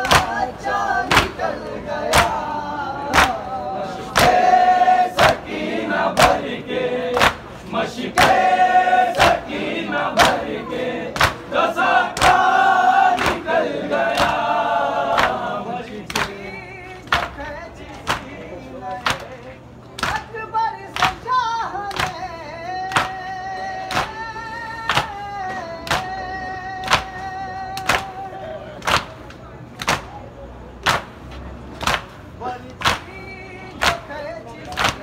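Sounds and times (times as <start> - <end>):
men chanting in unison: 0.0 - 29.0, 31.8 - 35.0.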